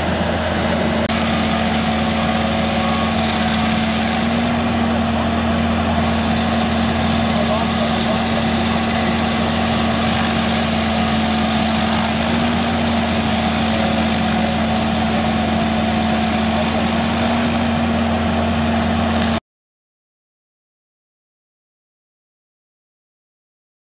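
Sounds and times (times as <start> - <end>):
stump grinder grinding wood: 0.0 - 19.4.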